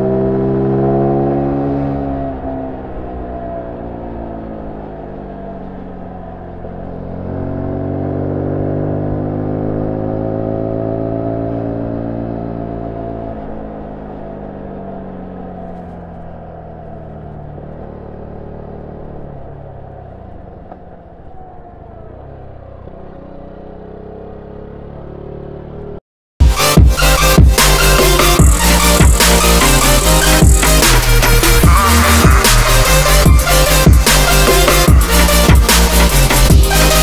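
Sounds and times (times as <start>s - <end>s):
motorcycle engine while riding: 0.0s - 26.0s, 26.8s - 37.0s.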